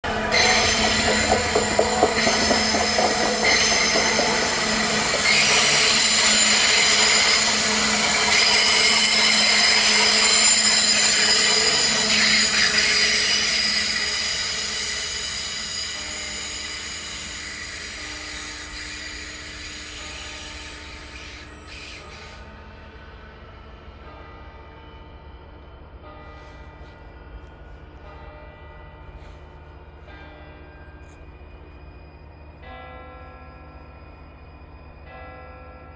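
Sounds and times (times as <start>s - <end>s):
train wheel squeal: 0.0s - 35.9s.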